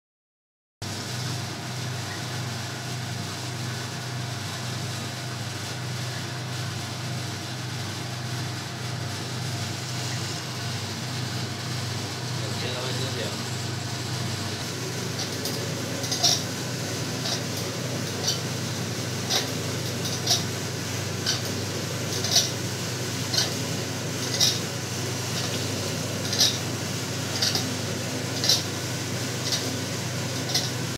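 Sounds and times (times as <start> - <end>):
mixer motor humming: 6.1 - 30.9.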